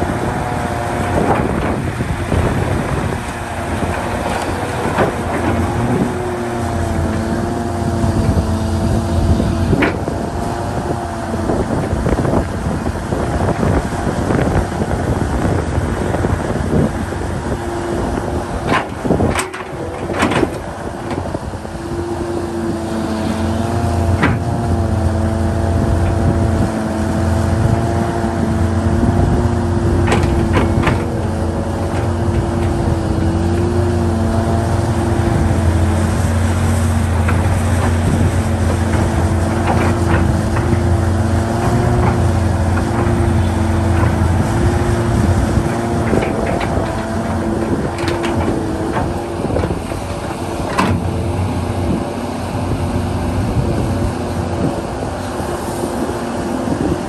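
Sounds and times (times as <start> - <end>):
excavator diesel engine rumbling: 0.0 - 57.0.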